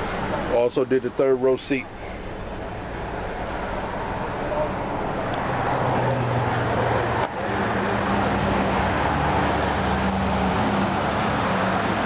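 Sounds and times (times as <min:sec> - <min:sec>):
low engine hum: 0:00.0 - 0:12.0
road and traffic noise: 0:00.0 - 0:12.0.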